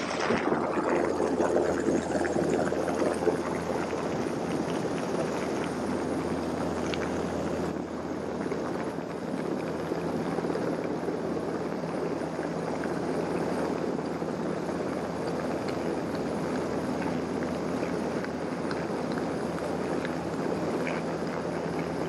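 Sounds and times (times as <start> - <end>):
helicopter rotor and engine: 1.1 - 22.0.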